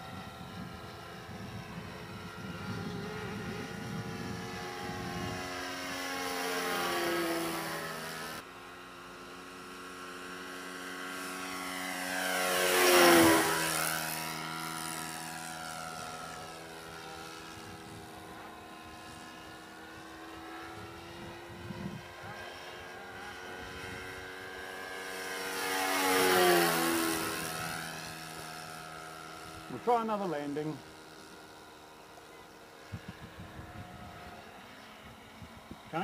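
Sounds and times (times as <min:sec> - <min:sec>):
model aircraft engine flying by: 0:00.0 - 0:36.0.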